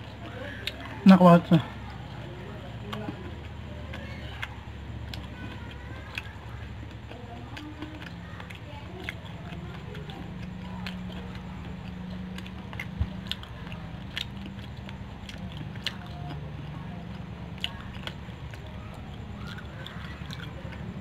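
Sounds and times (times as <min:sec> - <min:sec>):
low steady hum: 0:00.0 - 0:21.0
person chewing: 0:00.0 - 0:21.0.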